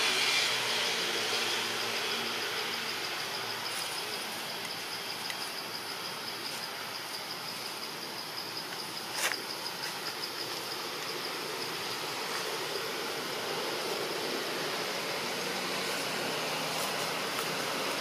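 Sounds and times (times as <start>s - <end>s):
insects trilling: 0.0s - 18.0s
outdoor hiss: 0.0s - 18.0s.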